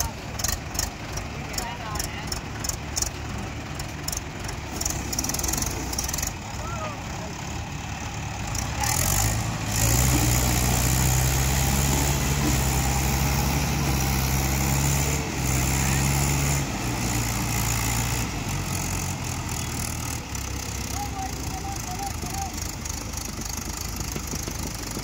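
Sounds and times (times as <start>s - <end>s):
diesel tractor engines labouring: 0.0s - 25.0s.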